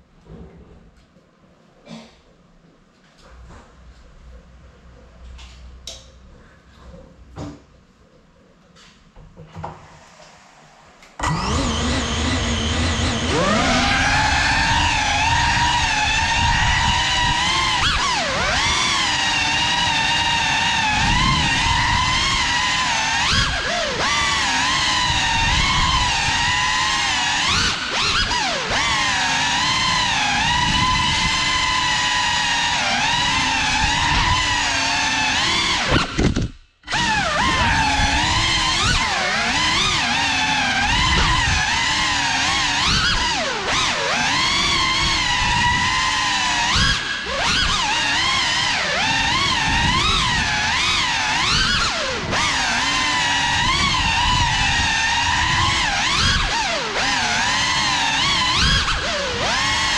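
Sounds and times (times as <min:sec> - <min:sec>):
drone motors buzzing whine: 0:10.7 - 0:59.9.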